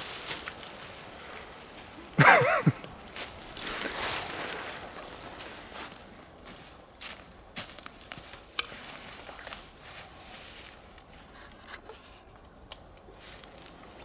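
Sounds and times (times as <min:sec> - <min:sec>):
footsteps crunching dry leaves: 0:00.0 - 0:11.4, 0:13.1 - 0:14.0.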